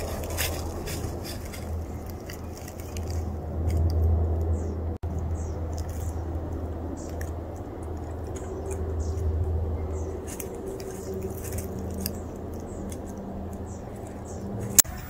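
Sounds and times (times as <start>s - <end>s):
crackles in dry undergrowth: 0.0s - 15.0s
low hum: 0.0s - 15.0s.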